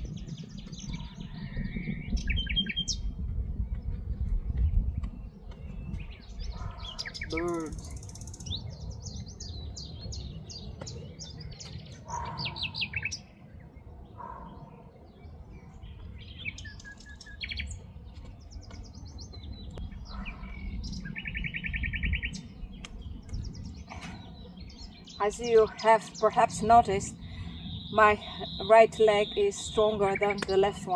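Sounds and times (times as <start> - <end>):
birds chirping and trilling: 0.0 - 30.9
wind rumble on microphone: 0.0 - 30.9.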